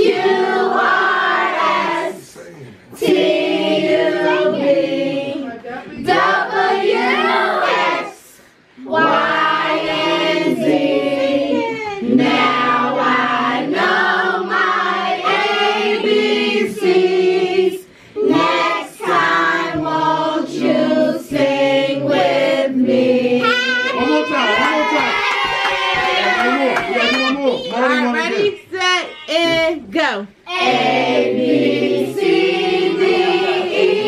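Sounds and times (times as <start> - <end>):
group of voices singing: 0.0 - 27.3, 29.4 - 34.0.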